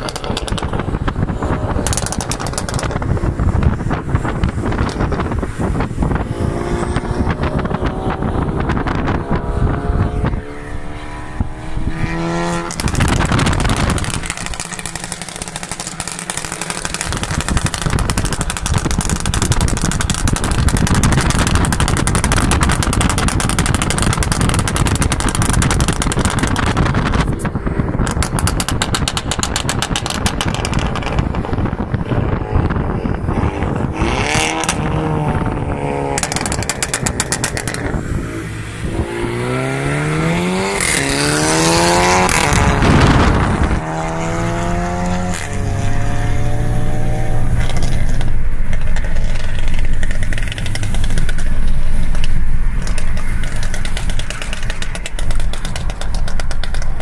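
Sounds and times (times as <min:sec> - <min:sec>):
car engine revving: 0:00.0 - 0:57.0
exhaust crackling and popping: 0:00.0 - 0:57.0
road and wind noise: 0:00.0 - 0:57.0.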